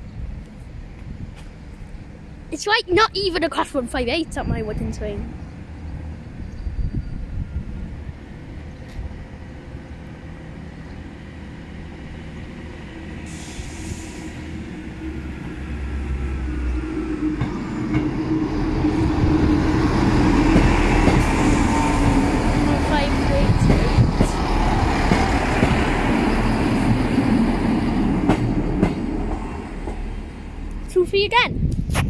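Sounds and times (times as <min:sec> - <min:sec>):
diesel train engine: 0:00.0 - 0:31.4
train wheel rumble: 0:04.0 - 0:31.9.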